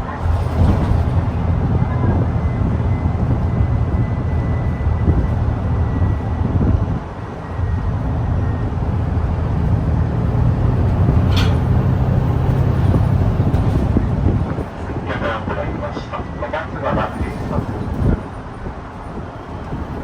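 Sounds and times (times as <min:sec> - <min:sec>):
bus drivetrain and road rumble: 0:00.0 - 0:20.0.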